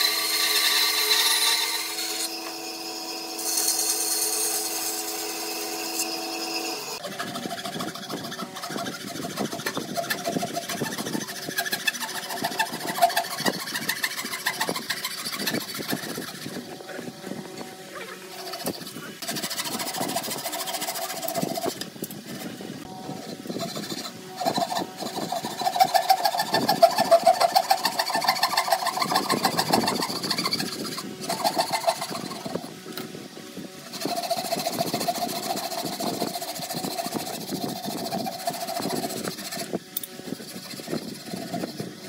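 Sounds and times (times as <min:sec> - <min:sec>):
hand saw cutting wood: 0:00.0 - 0:42.0.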